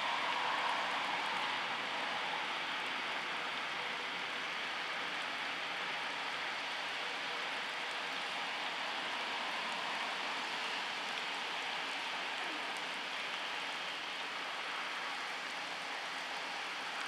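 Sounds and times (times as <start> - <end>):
rain falling on standing water: 0.0 - 17.0.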